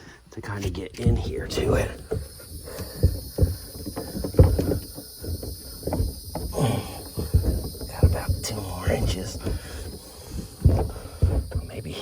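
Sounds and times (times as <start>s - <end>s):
hose knocking and rubbing in hull: 0.0s - 12.0s.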